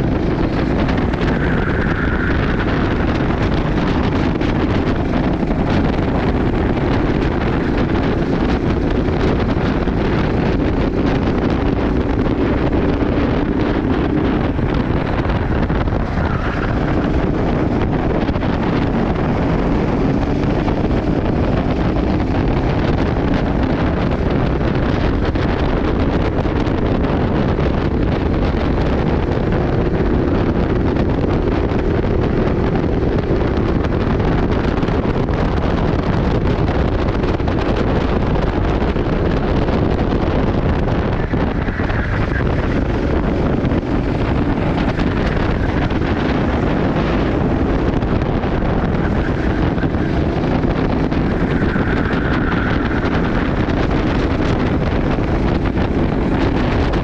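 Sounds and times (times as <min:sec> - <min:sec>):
kart engine running: 0:00.0 - 0:57.0
wind buffeting microphone: 0:00.0 - 0:57.0.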